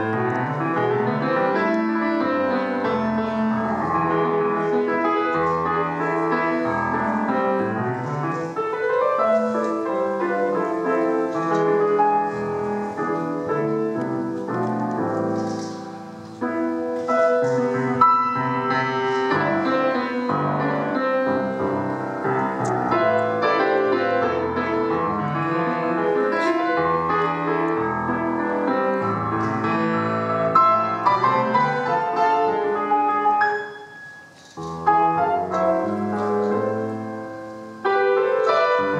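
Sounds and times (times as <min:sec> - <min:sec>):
solo piano folk dance: 0:00.0 - 0:38.9.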